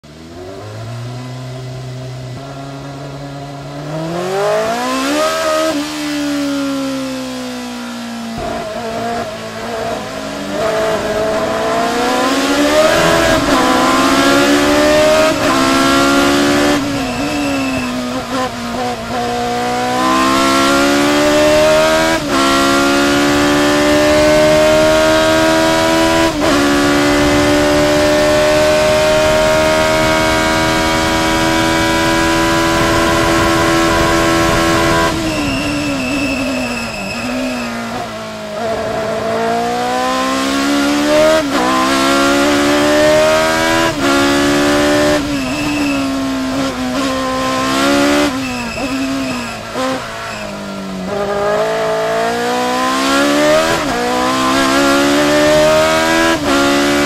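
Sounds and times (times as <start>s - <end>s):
racing car engine accelerating: 0.0s - 57.0s.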